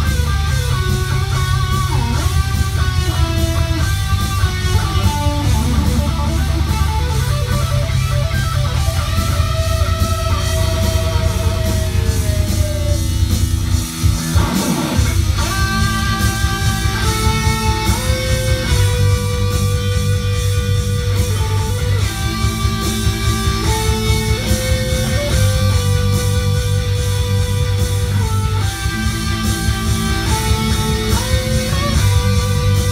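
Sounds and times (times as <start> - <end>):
beat and bass: 0.0 - 32.9
electric guitar lead: 0.0 - 32.9
sweeping sliding guitar sound: 0.0 - 32.9.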